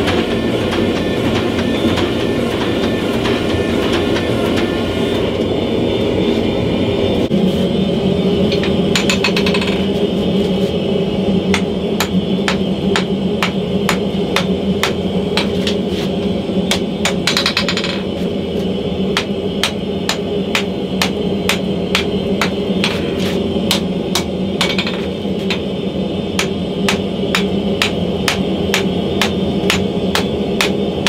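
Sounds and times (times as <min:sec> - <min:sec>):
gas forge roaring: 0:00.0 - 0:31.0.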